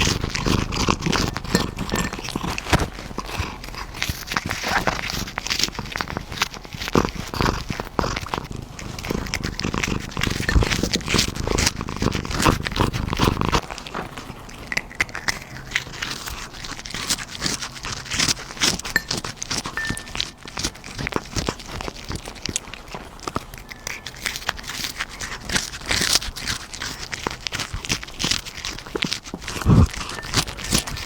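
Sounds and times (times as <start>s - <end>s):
cat chewing and smacking: 0.0s - 31.0s.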